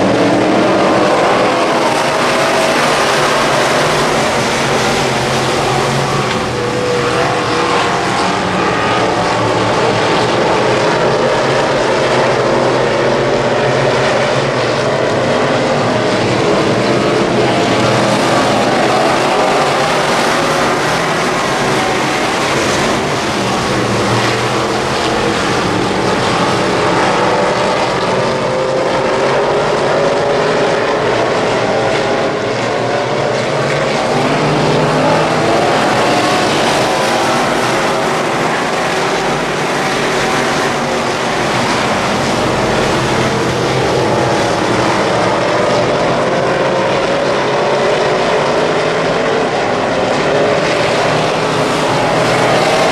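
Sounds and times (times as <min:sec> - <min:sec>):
race car engine revving: 0:00.0 - 0:52.9.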